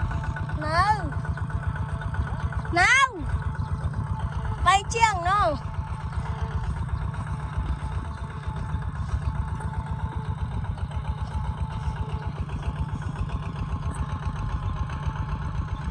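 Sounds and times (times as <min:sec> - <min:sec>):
diesel engine chugging: 0:00.0 - 0:15.9.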